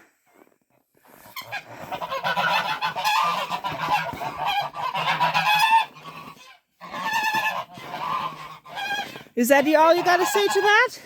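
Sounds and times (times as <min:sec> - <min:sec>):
domestic waterfowl calling: 0:01.1 - 0:11.0.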